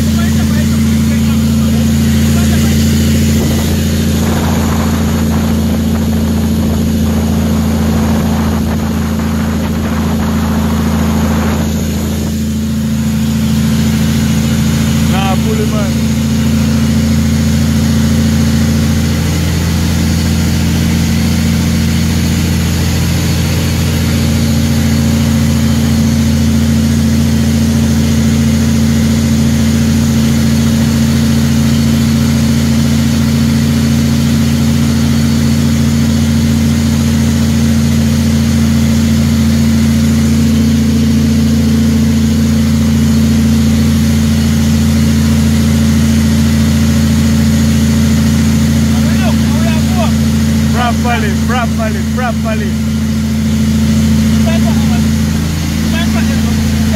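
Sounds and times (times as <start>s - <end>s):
road noise: 0.0s - 56.9s
truck diesel engine running: 0.0s - 56.9s.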